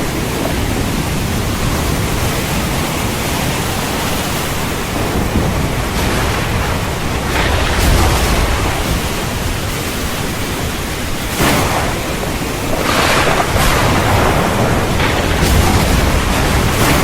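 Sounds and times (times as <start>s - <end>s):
heavy rain: 0.0s - 17.0s
low thunder rumbling: 0.0s - 17.0s.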